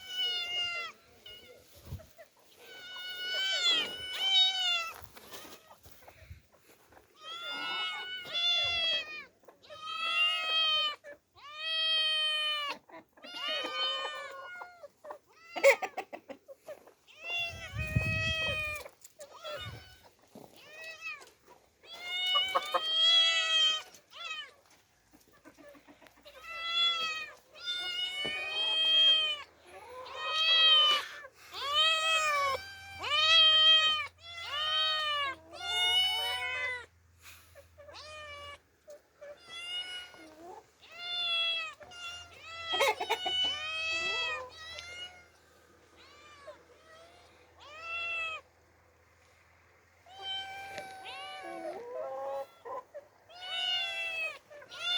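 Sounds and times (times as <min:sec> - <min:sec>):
kittens meowing: 0:00.0 - 0:05.8, 0:07.2 - 0:16.0, 0:17.1 - 0:24.6, 0:26.2 - 0:37.0, 0:37.7 - 0:48.7, 0:50.0 - 0:54.9.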